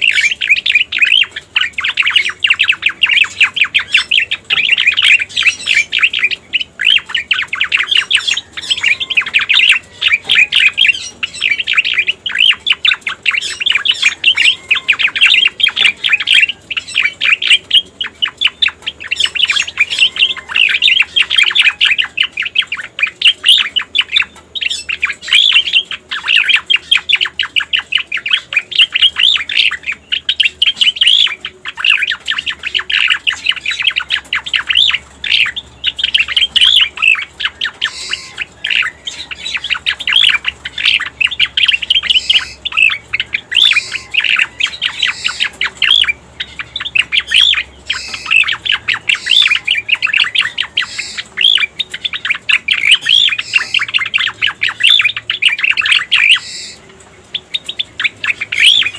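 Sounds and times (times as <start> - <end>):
rapid bird chirps and trills: 0.0 - 58.9.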